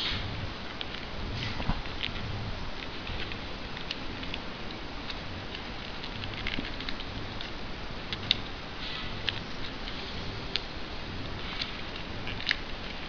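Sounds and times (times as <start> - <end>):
paper crinkling: 0.7 - 13.0.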